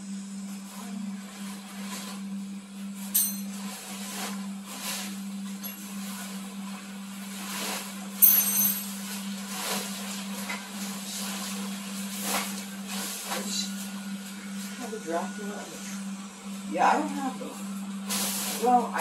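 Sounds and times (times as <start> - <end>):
blower fan humming: 0.0 - 19.0.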